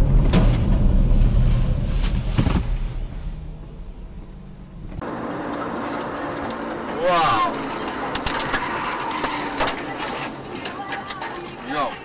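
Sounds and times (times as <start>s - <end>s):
car engine hum: 0.0s - 12.0s
car road and engine rumble: 0.0s - 12.0s.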